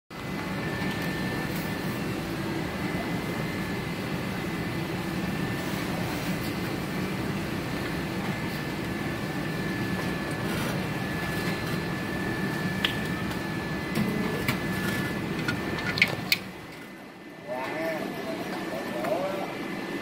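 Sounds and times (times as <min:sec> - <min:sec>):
workshop machine hum: 0:00.1 - 0:20.0.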